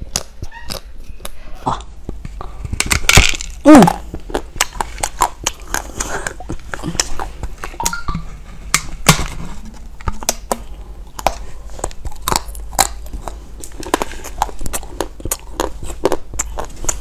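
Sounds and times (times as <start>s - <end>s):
crunchy biting and chewing: 0.0s - 7.9s, 8.6s - 17.0s.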